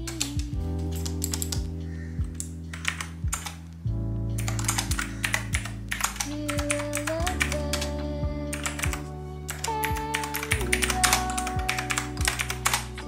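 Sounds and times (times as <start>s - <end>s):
mechanical keyboard typing: 0.0s - 3.6s, 4.4s - 13.0s
background music with beat: 0.0s - 13.0s.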